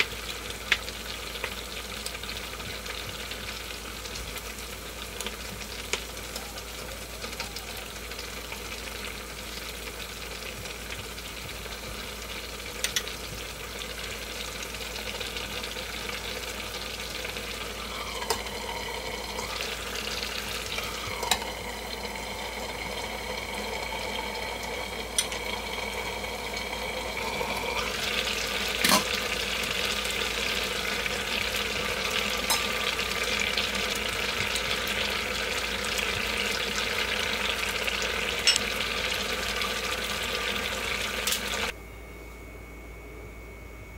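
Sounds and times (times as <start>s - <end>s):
stew simmering and sizzling: 0.0s - 41.8s.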